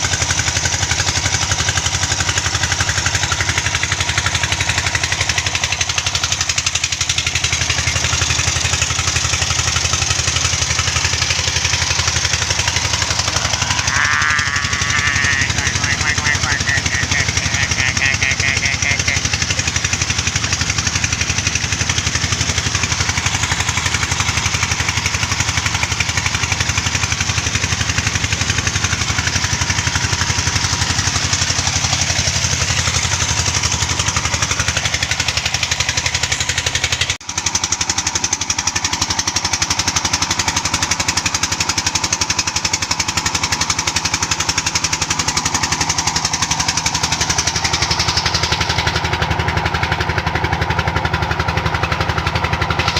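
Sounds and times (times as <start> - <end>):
mining rig engine running: 0.0 - 52.9.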